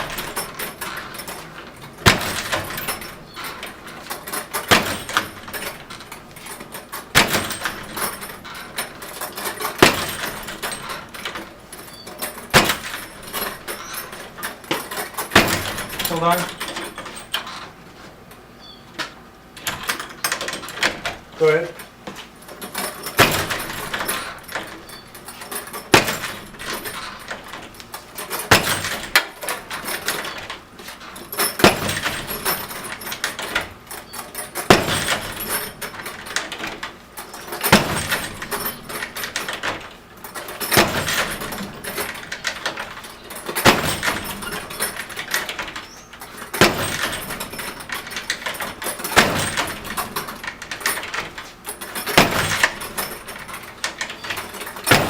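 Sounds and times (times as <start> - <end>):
heavy bag striking door: 0.0 - 17.8, 19.6 - 55.0
door hardware rattling: 0.0 - 18.5, 19.5 - 55.0.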